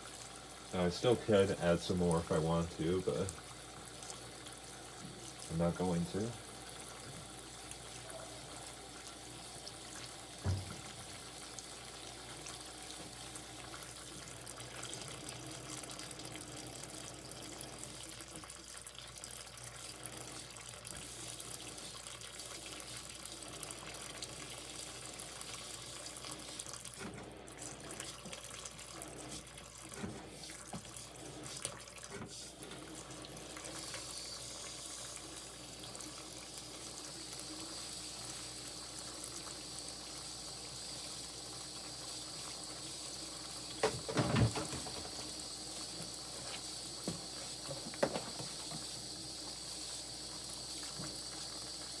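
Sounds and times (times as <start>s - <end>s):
water running into tub: 0.0s - 52.0s.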